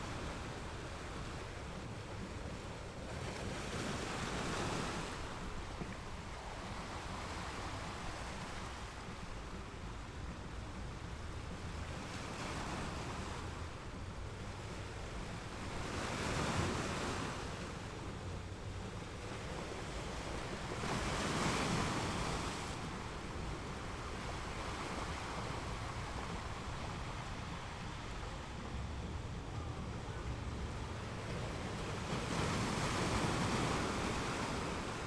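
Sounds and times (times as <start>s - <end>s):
ocean waves washing ashore: 0.0s - 35.0s
waves breaking: 0.0s - 35.0s.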